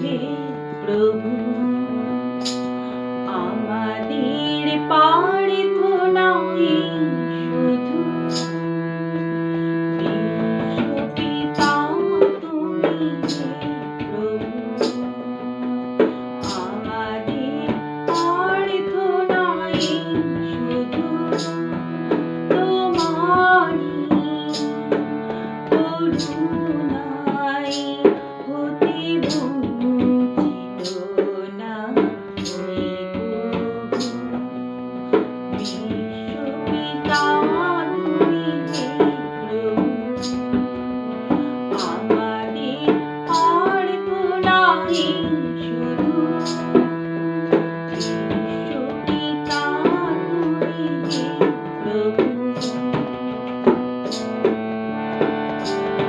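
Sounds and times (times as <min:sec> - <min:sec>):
harmonium: 0:00.0 - 0:56.0
tabla: 0:00.0 - 0:56.0
woman singing devotional song: 0:00.0 - 0:56.0.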